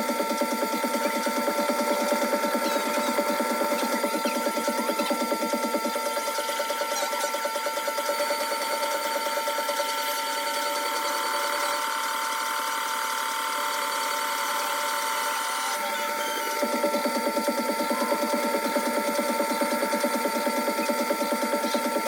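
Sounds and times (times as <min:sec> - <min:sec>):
wet grinder whining: 0:00.0 - 0:22.0.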